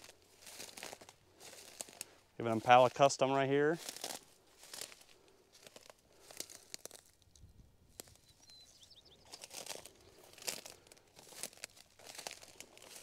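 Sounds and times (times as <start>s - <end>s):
footsteps crunching dry grass: 0.0s - 13.0s.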